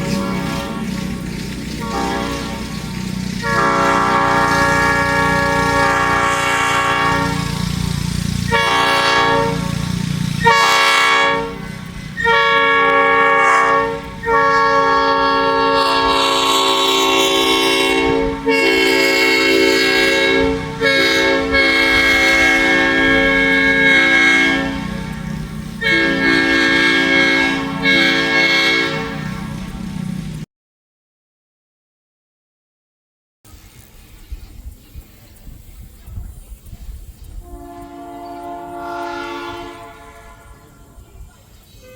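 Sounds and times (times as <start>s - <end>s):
locomotive air horn blasts: 0.0s - 30.4s, 37.3s - 41.9s
train rumble: 0.0s - 30.5s, 33.5s - 41.9s.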